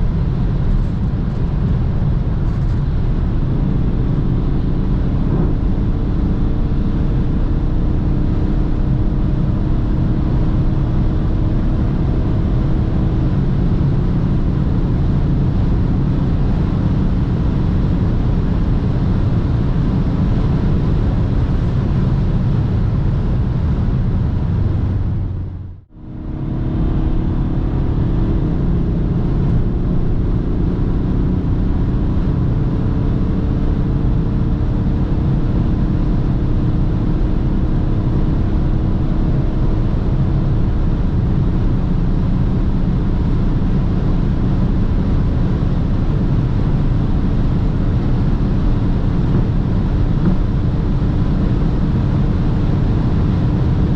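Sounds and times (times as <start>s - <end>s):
diesel car engine pulling hard: 0.0s - 53.9s
road and wind noise: 0.0s - 53.9s.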